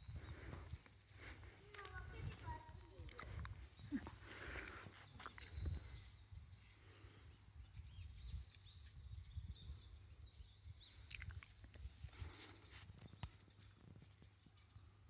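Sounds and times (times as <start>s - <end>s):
faint bird chirps: 0.0s - 15.0s
wind rumble on microphone: 0.0s - 15.0s.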